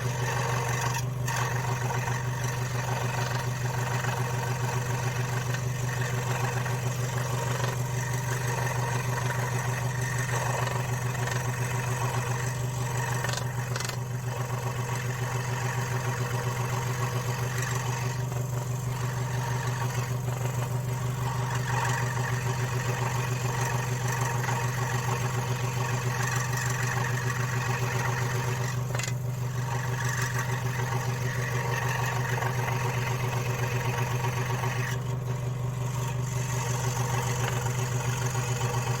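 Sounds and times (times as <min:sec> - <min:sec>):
scroll saw cutting wood: 0:00.0 - 0:39.0.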